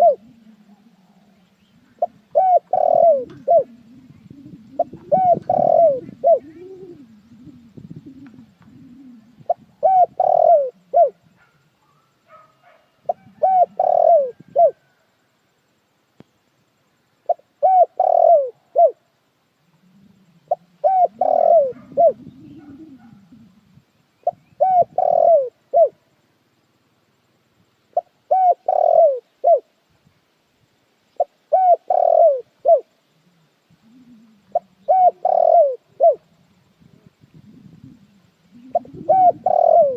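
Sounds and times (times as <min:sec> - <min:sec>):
dove cooing: 0:00.0 - 0:15.1, 0:17.2 - 0:26.1, 0:27.9 - 0:29.7, 0:31.1 - 0:39.9.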